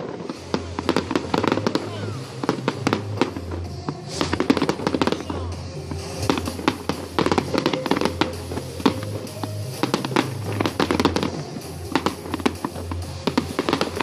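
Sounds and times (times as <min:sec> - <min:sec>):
background music: 0:00.0 - 0:14.0
fireworks crackling and popping: 0:00.0 - 0:14.0.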